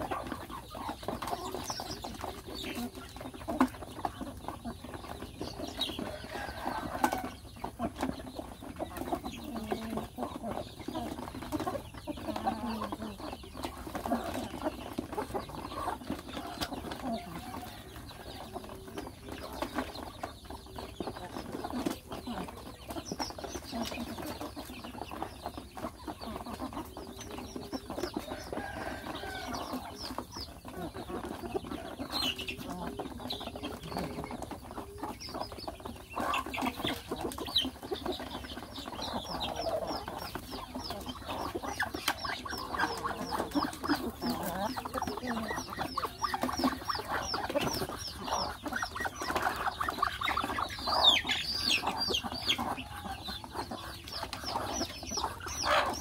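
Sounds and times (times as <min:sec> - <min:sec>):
beaks pecking at feed: 0:00.0 - 0:56.0
chickens clucking: 0:00.0 - 0:56.0.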